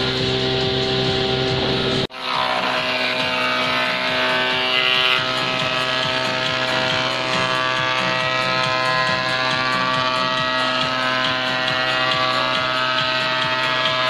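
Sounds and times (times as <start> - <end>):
jointer-planer motor humming: 0.0 - 14.0
board feeding through planer: 1.2 - 14.0.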